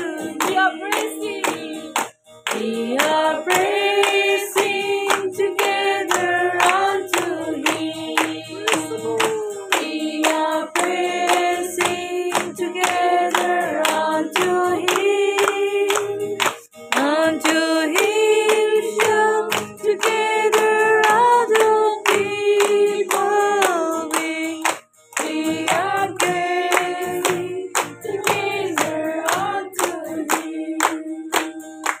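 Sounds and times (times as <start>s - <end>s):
acoustic guitar: 0.0s - 32.0s
clapping in time: 0.0s - 32.0s
group singing worship song: 0.0s - 32.0s.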